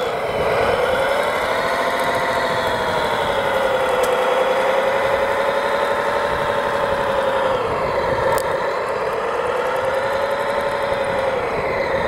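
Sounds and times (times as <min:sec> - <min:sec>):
model bulldozer engine drone: 0:00.0 - 0:12.0.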